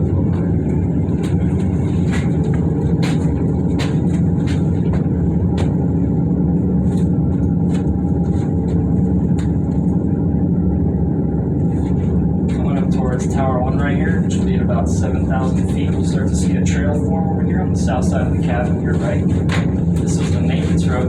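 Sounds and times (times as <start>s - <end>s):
cable car cabin rumble: 0.0s - 21.0s.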